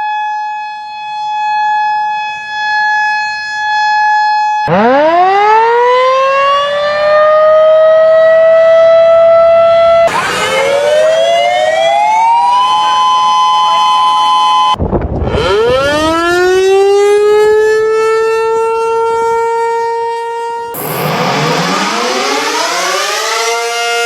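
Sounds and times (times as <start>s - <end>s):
siren wailing: 0.0s - 24.0s
two-tone siren winding up: 4.6s - 24.0s.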